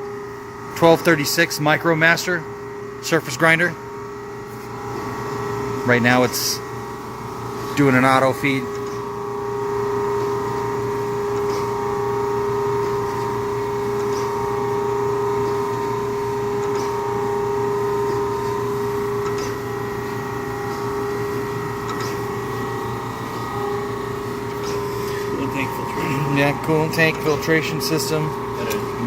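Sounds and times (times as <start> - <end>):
surface grinder hum and whine: 0.0 - 29.0.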